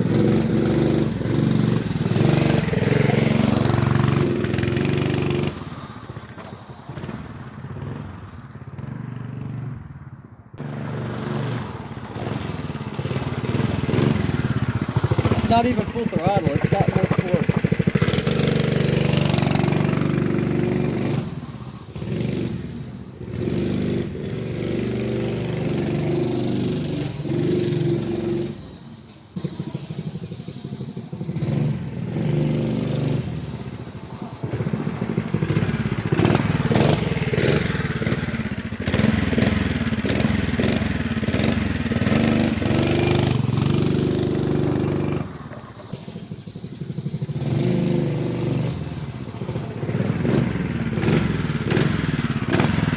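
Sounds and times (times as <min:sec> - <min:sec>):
minibike engine revving: 0:00.0 - 0:52.9.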